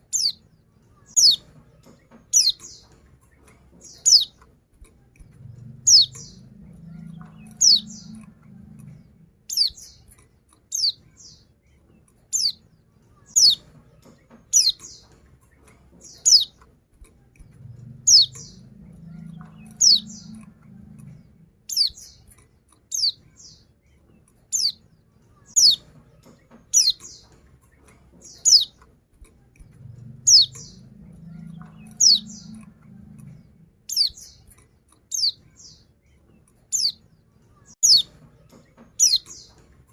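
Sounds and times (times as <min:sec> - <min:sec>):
faint low hum: 0:00.0 - 0:39.9.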